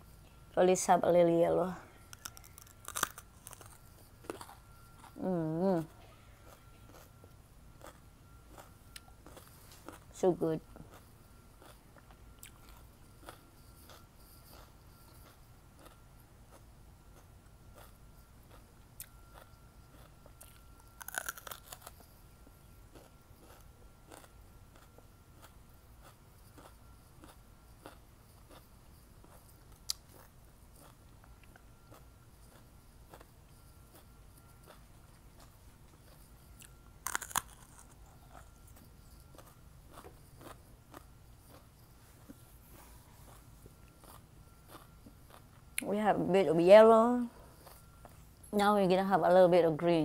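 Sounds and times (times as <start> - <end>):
person crunching and chewing pepper: 0.0 - 46.3, 47.0 - 48.6.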